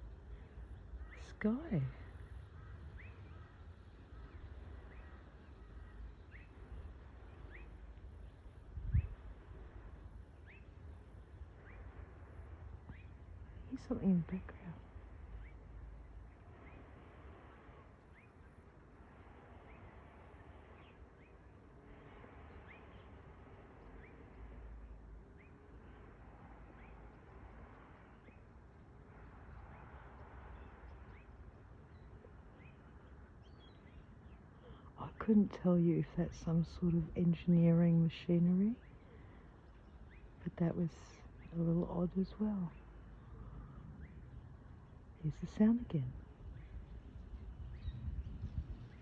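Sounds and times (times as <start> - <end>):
faint bird chirps: 0.0 - 49.0
faint low rumble: 0.0 - 49.0
low background noise: 0.0 - 49.0.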